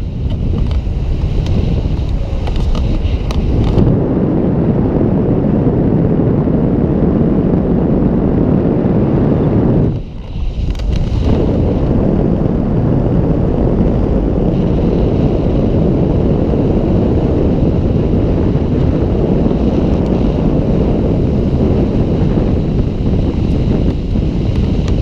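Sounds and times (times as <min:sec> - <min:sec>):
road rumble: 0:00.0 - 0:25.0
wind buffeting microphone: 0:00.0 - 0:25.0
wind rush from moving car: 0:00.0 - 0:25.0.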